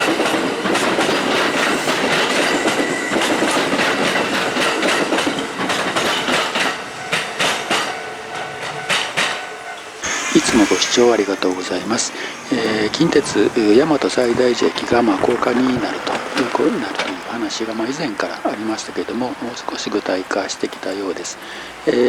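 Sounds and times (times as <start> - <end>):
electric train passing: 0.0 - 22.0
wheels clacking over rail joints: 0.0 - 22.0.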